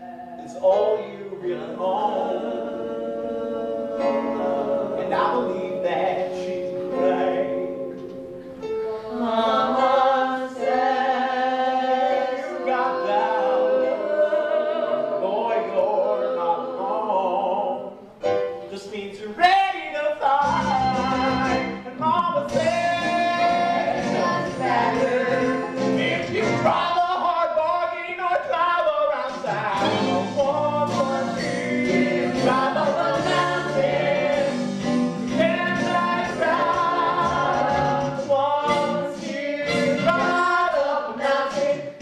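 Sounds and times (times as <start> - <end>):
male voices singing in harmony: 0.0 - 8.3, 8.9 - 18.0, 19.5 - 42.0
musical accompaniment: 0.0 - 42.0.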